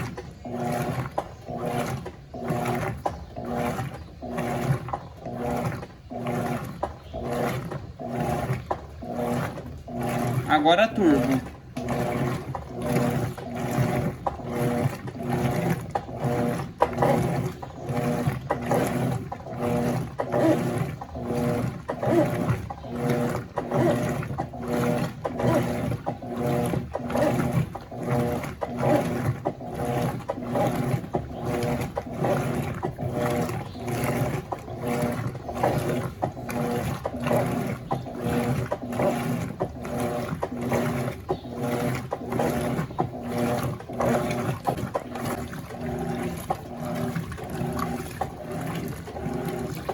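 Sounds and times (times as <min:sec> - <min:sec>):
washing machine agitator swishing: 0:00.0 - 0:49.9
washing machine motor running: 0:00.0 - 0:49.9.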